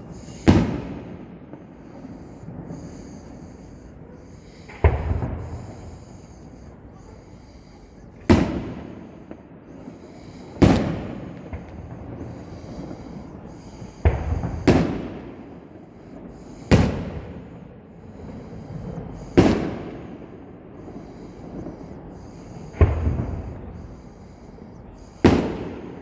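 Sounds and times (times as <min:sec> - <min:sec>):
fireworks bangs echoing: 0:00.0 - 0:26.0.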